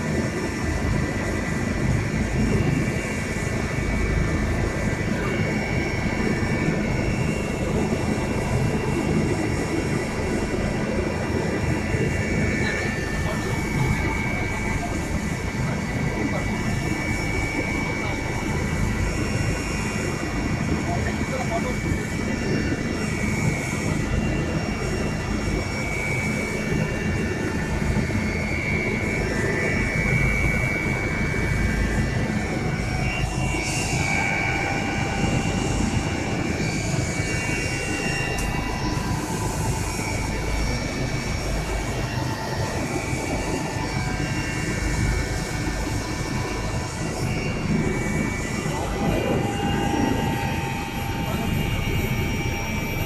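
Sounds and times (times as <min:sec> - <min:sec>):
helicopter engine and rotor drone: 0:00.0 - 0:53.0
high wavering whine: 0:00.0 - 0:53.0.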